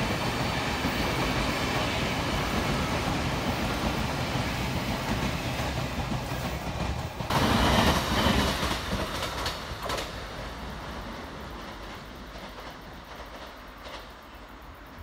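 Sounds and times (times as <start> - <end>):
train wheel clacks: 0.0 - 10.6, 11.2 - 14.4
electric train rumbling past: 0.0 - 15.0
train passing at speed: 0.0 - 15.0.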